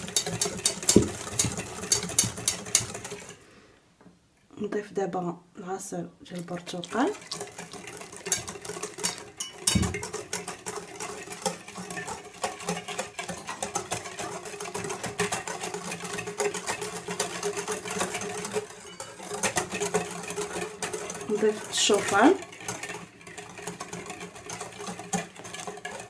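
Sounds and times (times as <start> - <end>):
whisk beating batter in glass bowl: 0.0 - 3.4, 6.3 - 26.0.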